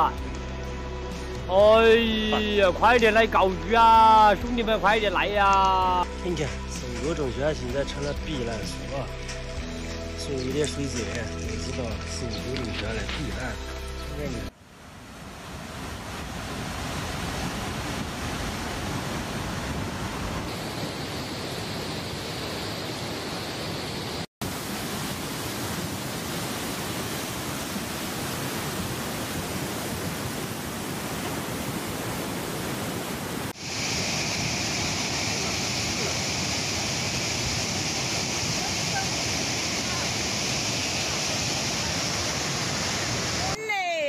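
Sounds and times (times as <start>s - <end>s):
floodwater rushing: 0.0s - 43.6s.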